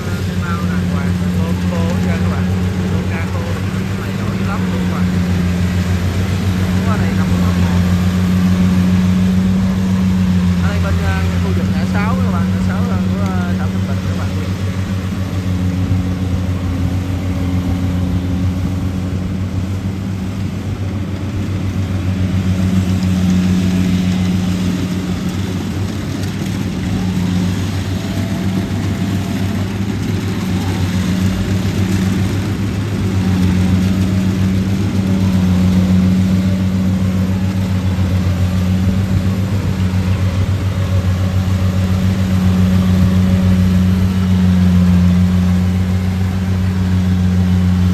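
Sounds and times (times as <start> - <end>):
harvester diesel engine droning: 0.0 - 47.9.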